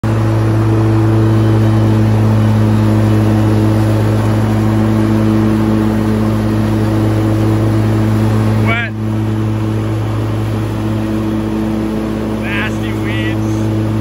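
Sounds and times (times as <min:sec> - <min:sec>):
mower deck hum: 0:00.0 - 0:14.0
mower engine drone: 0:00.0 - 0:14.0.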